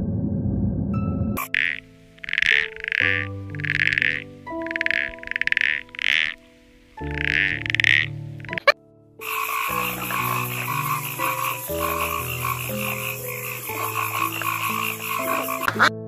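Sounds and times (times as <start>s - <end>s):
soft background music: 0.9s - 16.0s
frogs croaking in chorus: 1.4s - 15.9s.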